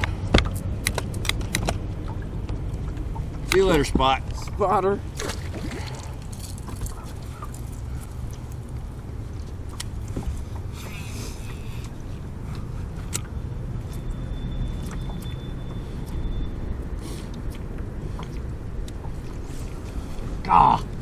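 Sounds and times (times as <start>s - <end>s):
boat background rumble: 0.0s - 21.0s.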